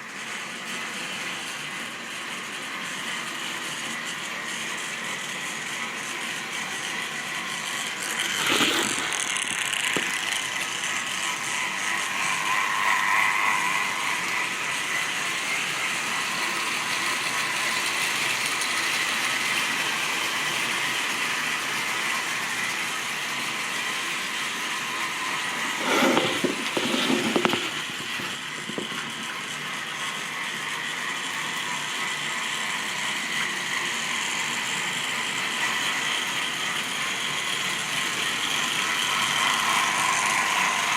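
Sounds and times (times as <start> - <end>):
model train whirring clatter: 0.0 - 40.9.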